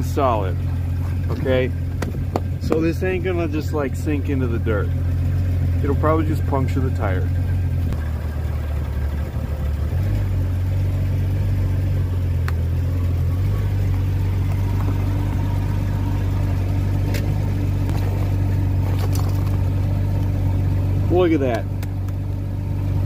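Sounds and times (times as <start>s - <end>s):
pickup truck engine idling: 0.0s - 23.0s.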